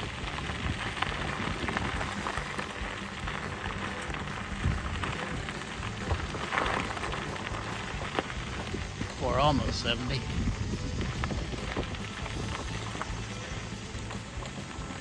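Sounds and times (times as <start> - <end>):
wheels rolling over gravel: 0.0 - 15.0.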